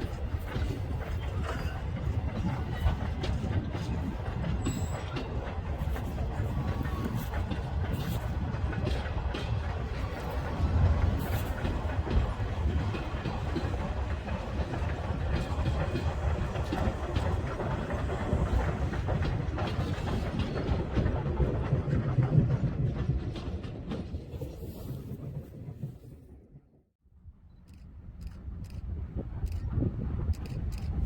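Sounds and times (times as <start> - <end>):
train wheels clattering over rail joints: 0.0 - 25.2.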